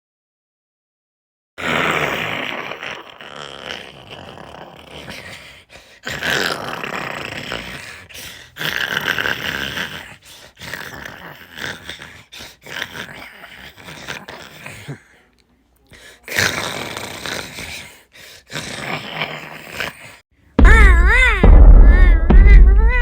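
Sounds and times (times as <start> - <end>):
dog growling and grumbling: 1.6 - 15.2, 16.0 - 23.0.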